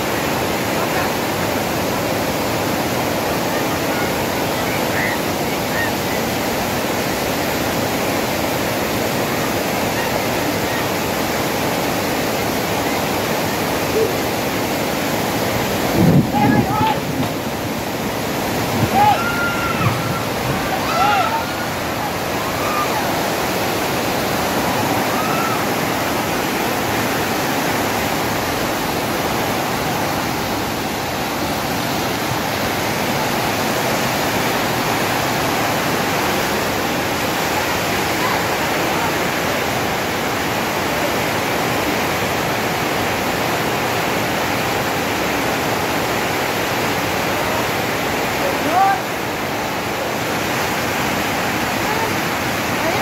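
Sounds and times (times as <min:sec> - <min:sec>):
floodwater rushing down a channel: 0:00.0 - 0:53.0.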